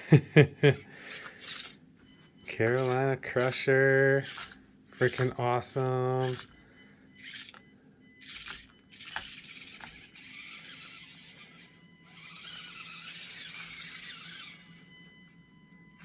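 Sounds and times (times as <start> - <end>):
small electric motor whining: 0.6 - 16.0.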